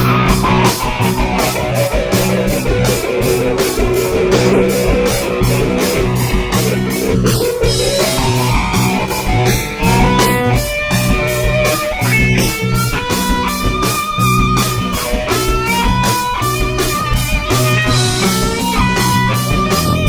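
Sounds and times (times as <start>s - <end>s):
guitar-led rock music: 0.0s - 20.0s.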